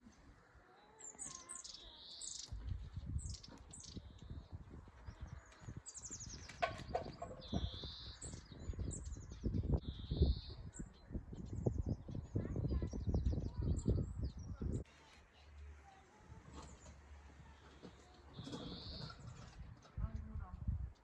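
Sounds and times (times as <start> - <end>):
songbirds singing and calling: 0.0 - 21.0.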